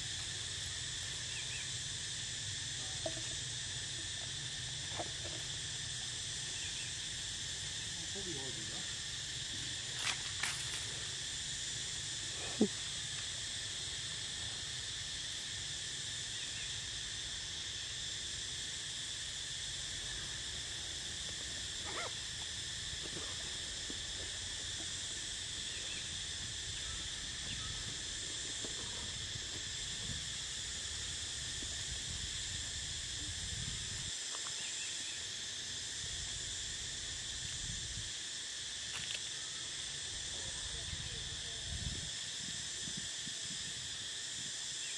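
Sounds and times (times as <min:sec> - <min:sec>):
insect chorus: 0:00.0 - 0:44.9.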